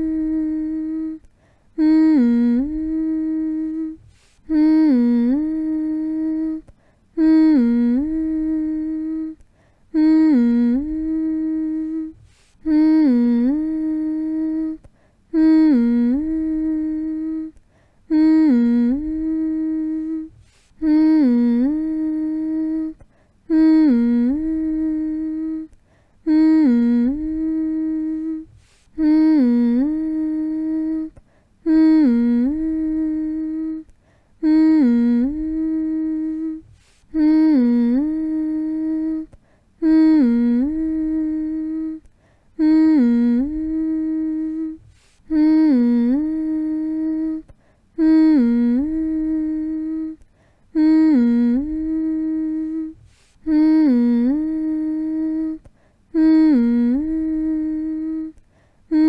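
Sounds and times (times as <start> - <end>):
person humming: 0.0 - 59.0.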